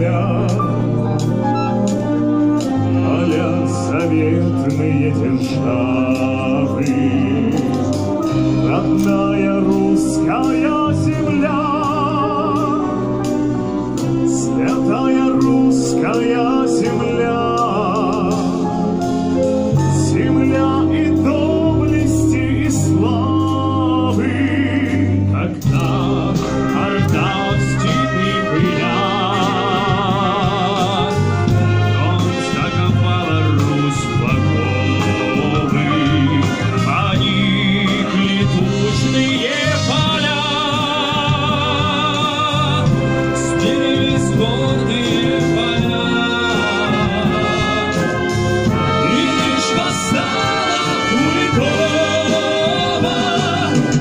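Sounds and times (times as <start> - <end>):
man singing with vibrato: 0.0 - 1.1, 1.7 - 13.4, 14.0 - 54.0
brass band playing chords: 0.0 - 54.0.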